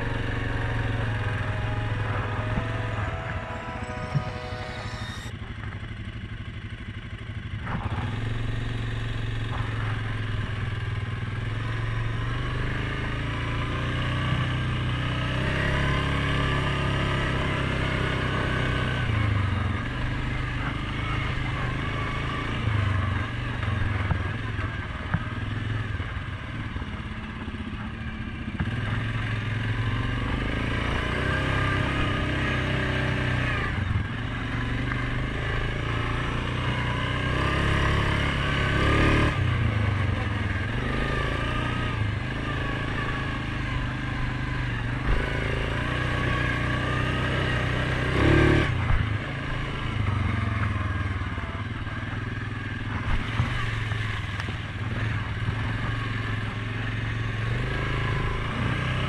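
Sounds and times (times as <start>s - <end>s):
atv engine revving: 0.0s - 4.4s, 5.4s - 59.0s.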